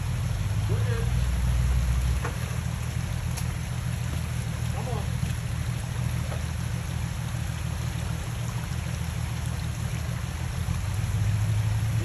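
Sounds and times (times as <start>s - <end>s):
vehicle engine running low: 0.0s - 12.0s.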